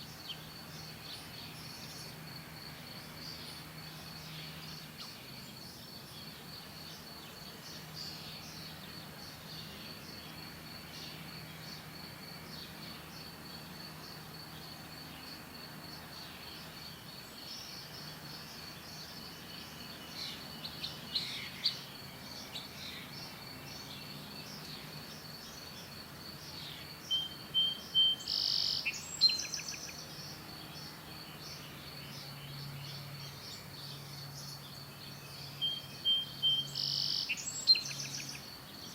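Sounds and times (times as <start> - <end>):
wild birds chirping: 0.0 - 38.9.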